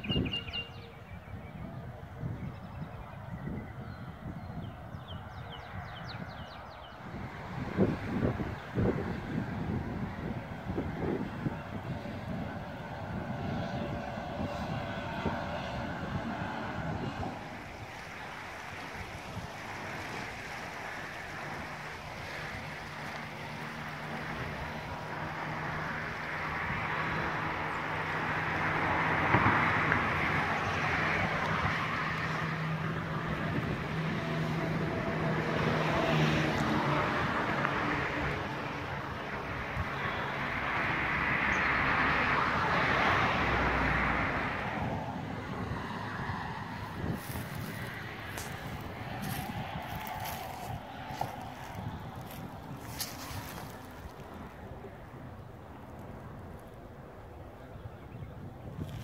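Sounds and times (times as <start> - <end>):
low engine hum: 0.0 - 59.0
vehicles passing: 0.0 - 59.0.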